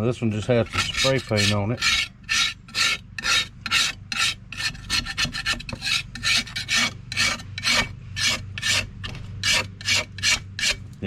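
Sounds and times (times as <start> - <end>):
brush scrubbing metal: 0.4 - 10.8.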